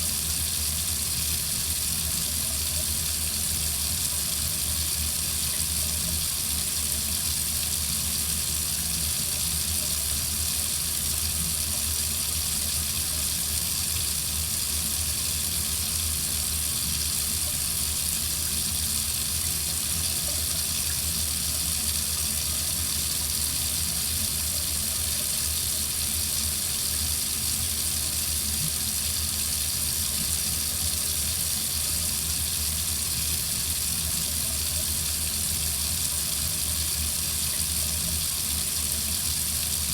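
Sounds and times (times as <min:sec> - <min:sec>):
faucet running into sink: 0:00.0 - 0:39.9.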